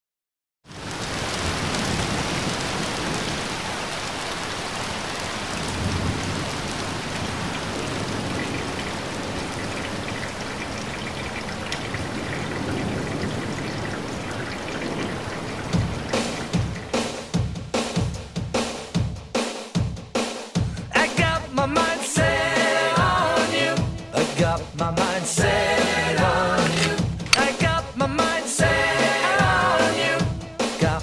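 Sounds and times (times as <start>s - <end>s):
steady rain: 0.6s - 19.2s, 20.6s - 31.0s.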